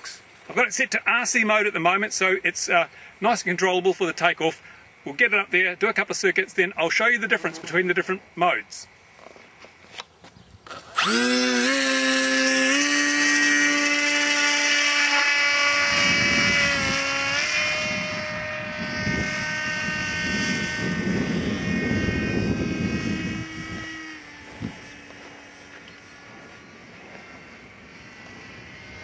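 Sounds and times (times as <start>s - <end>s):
electric motor and propeller whine: 0.0s - 29.0s.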